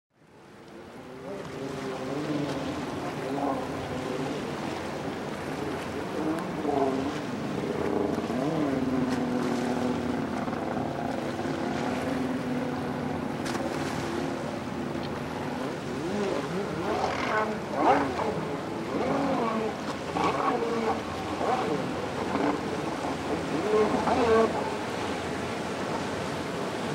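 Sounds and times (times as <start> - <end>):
boat engines droning: 0.2 - 26.9
water rushing: 0.2 - 26.9.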